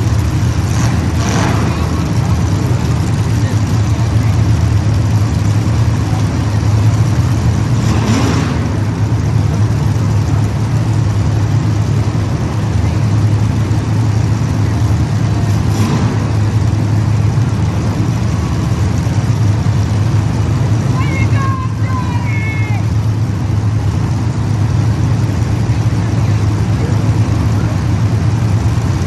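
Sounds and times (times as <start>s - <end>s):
race car engines running: 0.0s - 29.0s.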